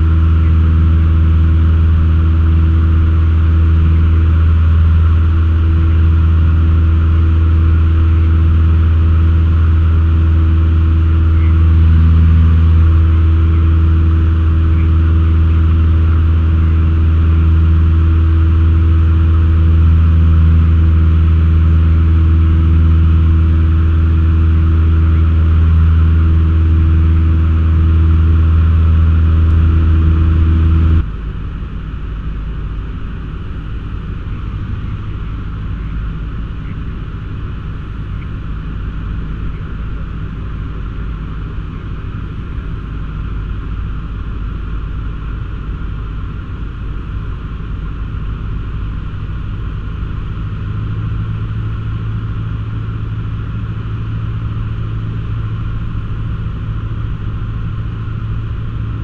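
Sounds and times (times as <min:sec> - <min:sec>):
quiet hissy drone: 0:00.0 - 0:59.0
small plane engine drone: 0:00.0 - 0:59.0.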